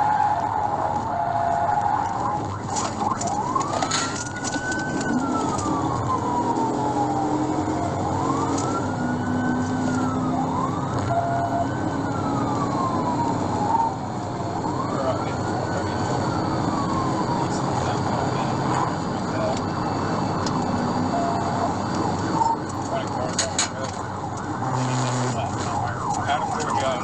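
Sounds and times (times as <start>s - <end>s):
car engine and road noise: 0.0s - 27.0s
police siren wailing: 0.0s - 27.0s.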